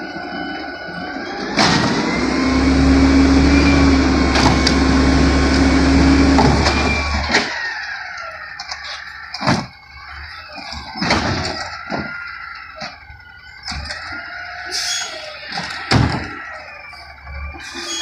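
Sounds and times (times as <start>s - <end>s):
garbage truck machinery whining: 0.0s - 18.0s.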